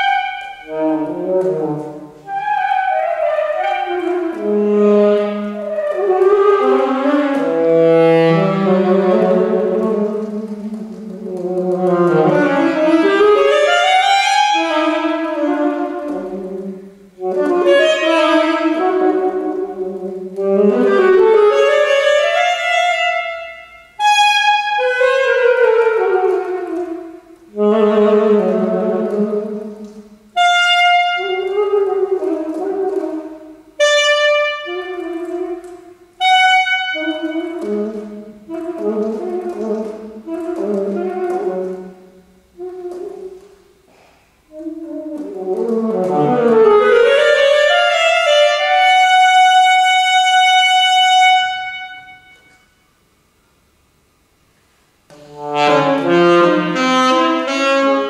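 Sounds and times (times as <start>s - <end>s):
saxophone solo in reverberant hall: 0.0s - 58.0s.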